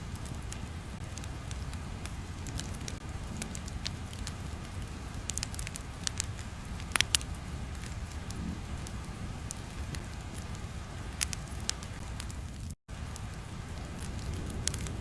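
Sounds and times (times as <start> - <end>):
fire low rumble: 0.0 - 15.0
fire pops and snaps: 0.0 - 15.0.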